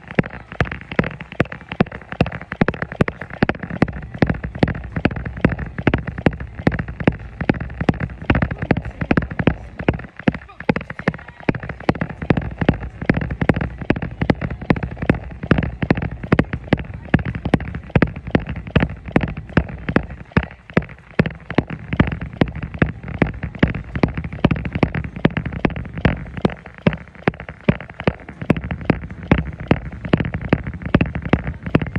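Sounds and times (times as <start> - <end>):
jogging footfalls on treadmill: 0.0 - 31.9.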